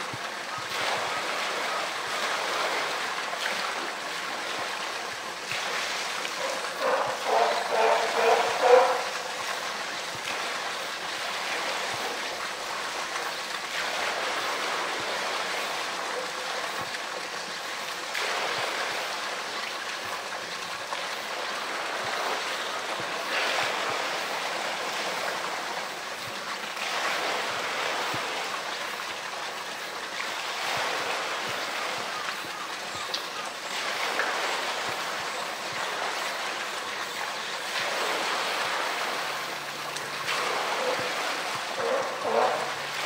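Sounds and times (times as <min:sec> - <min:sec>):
water pouring into pool: 0:00.0 - 0:43.0.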